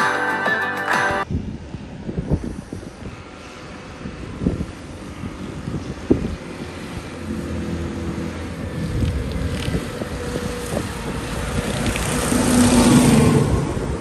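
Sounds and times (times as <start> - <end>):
tractors driving past: 2.4 - 14.0.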